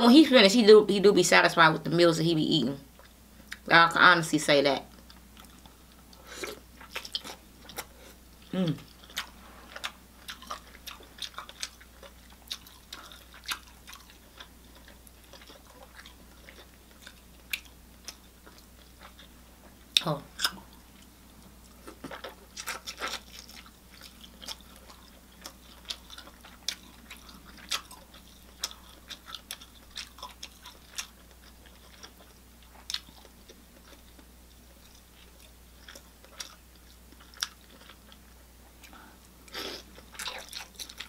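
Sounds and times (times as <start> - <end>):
person chewing food: 4.9 - 41.0.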